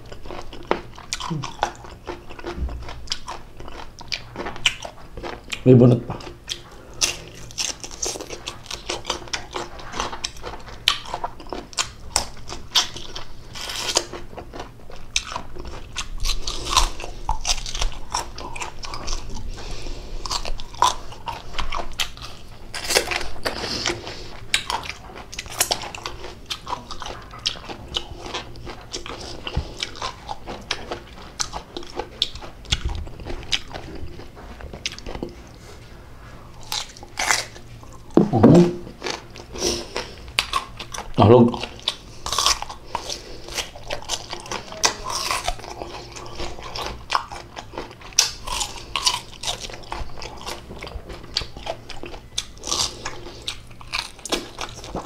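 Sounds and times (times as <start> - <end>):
crunchy chewing of mango: 0.0 - 55.0.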